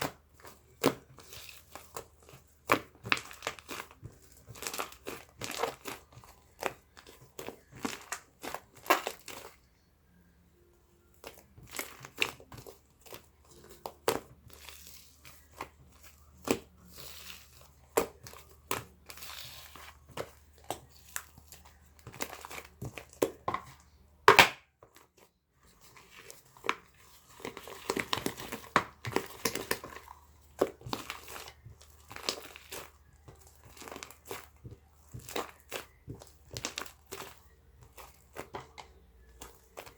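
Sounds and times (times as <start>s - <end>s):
material crinkling and crumpling: 0.0s - 9.9s, 11.0s - 24.0s, 24.8s - 39.9s.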